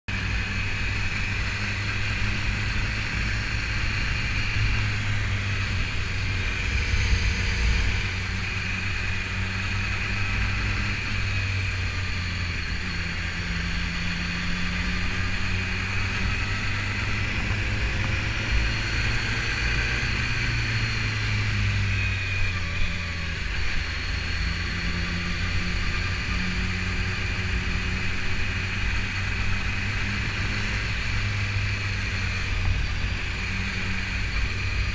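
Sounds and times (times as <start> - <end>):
motorcycle engine cruising: 0.1 - 34.9.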